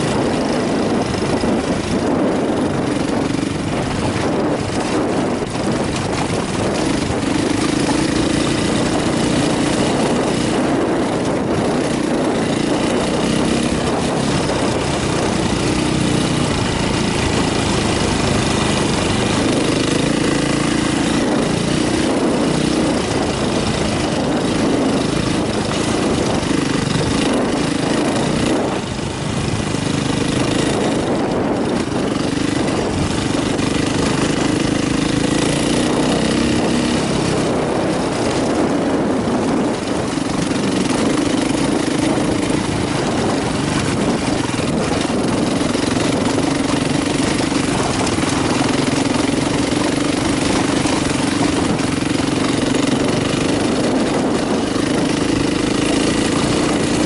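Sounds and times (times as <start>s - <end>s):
dirt bike engine revving: 0.0s - 57.0s
wind on microphone: 0.0s - 57.0s.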